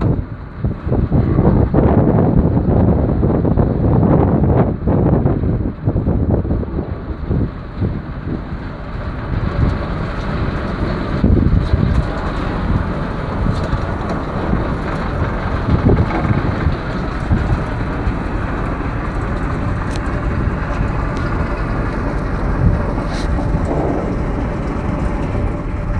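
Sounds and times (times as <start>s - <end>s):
boat engine low rumble: 0.0s - 25.9s
rushing air and water: 0.0s - 25.9s.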